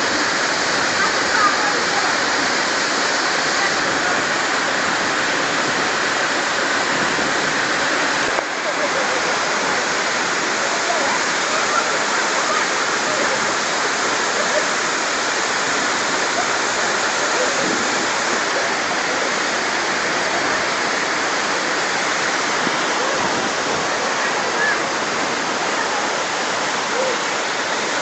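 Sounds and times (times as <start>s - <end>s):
waterfall pouring into pool: 0.0s - 28.0s.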